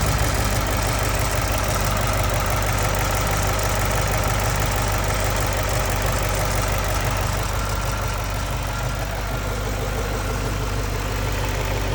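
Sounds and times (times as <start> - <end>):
car engine idling: 0.0 - 11.9
fuel injectors ticking: 0.0 - 11.9.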